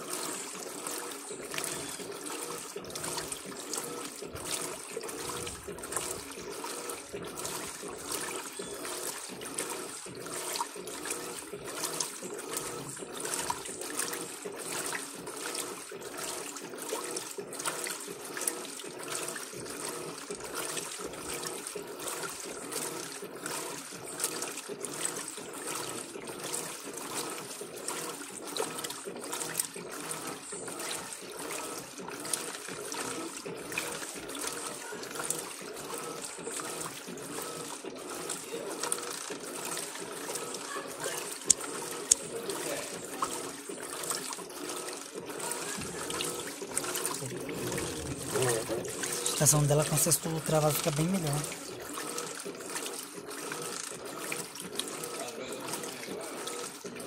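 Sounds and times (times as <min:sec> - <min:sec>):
washing machine sloshing: 0:00.0 - 0:57.0.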